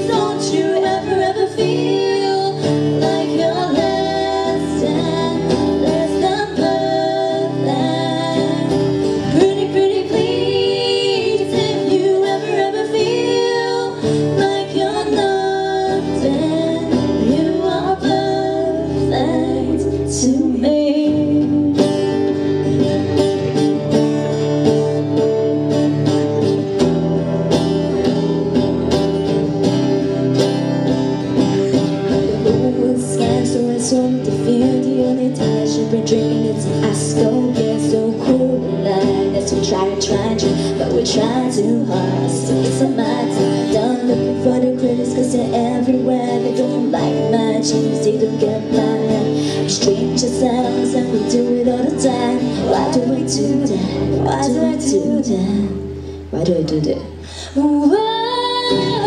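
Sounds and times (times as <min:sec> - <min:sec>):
young woman singing: 0:00.0 - 0:22.8, 0:31.4 - 0:59.0
acoustic guitars strumming: 0:00.0 - 0:59.0.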